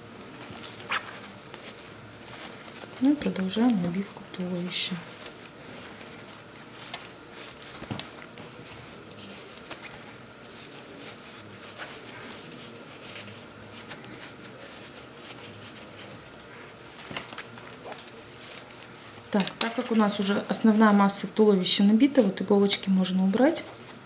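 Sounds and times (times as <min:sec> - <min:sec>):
fabric and stuffing rustling: 0:00.0 - 0:24.0.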